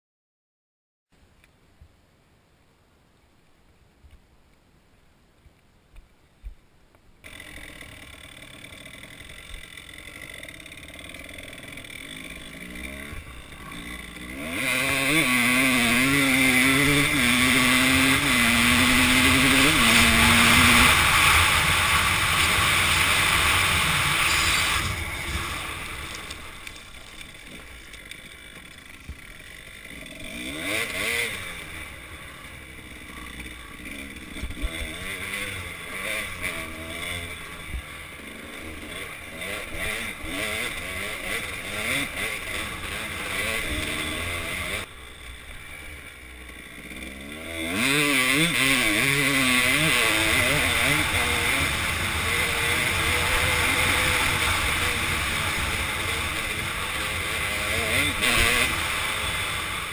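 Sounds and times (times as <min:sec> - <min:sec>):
dirt bike engine revving: 0:07.2 - 0:59.9.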